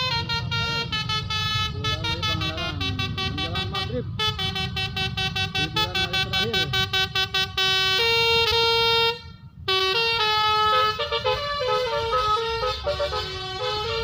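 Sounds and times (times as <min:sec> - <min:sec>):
bus musical horn playing a tune: 0:00.0 - 0:14.0
engine rumble: 0:00.0 - 0:14.0.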